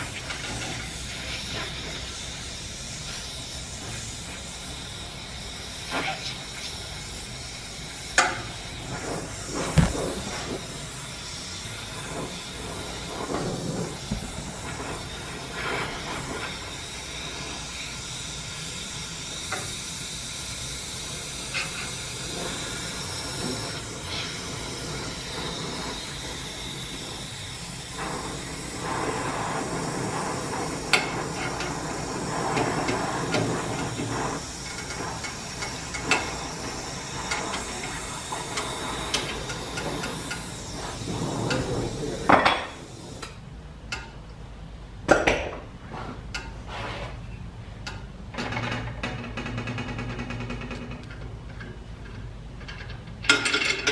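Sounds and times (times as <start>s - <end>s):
gas torch flame hissing: 0.0s - 43.7s.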